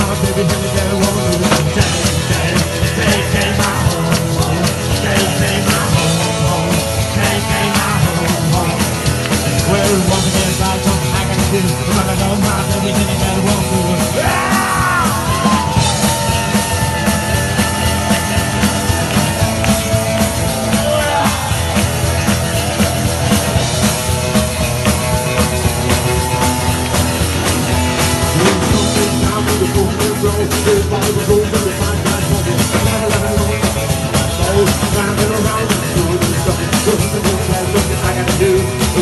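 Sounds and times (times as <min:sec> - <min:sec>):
electric guitar lead bends: 0:00.0 - 0:39.0
rockabilly band playing live: 0:00.0 - 0:39.0.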